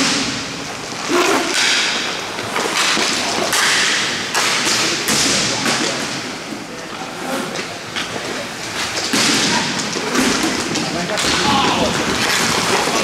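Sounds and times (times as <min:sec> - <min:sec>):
skates scraping ice: 0:00.0 - 0:13.0.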